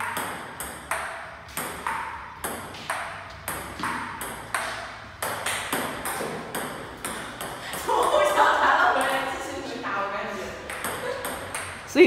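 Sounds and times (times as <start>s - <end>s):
ping pong ball bouncing on table: 0.0s - 7.9s, 8.9s - 9.4s, 10.6s - 11.9s
ping pong ball clicking off paddles: 0.0s - 7.9s, 8.9s - 9.5s, 10.6s - 11.9s.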